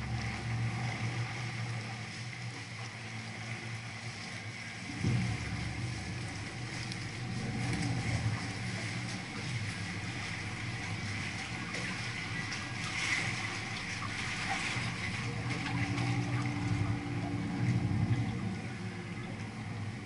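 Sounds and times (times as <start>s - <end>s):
boat engine running: 0.0s - 20.0s
steady higher hum: 0.0s - 20.0s
water washing along hull: 0.0s - 20.0s.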